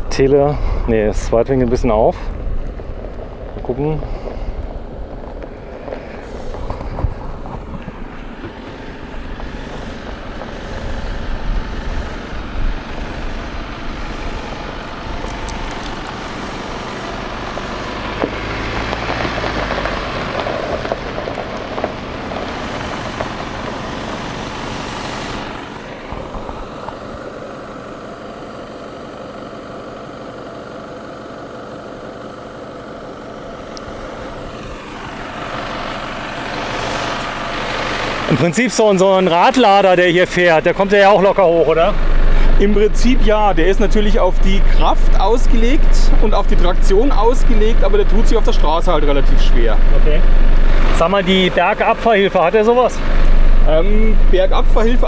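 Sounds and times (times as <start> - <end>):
tyres on gravel: 0.0 - 55.0
vehicle engine running: 0.0 - 55.0.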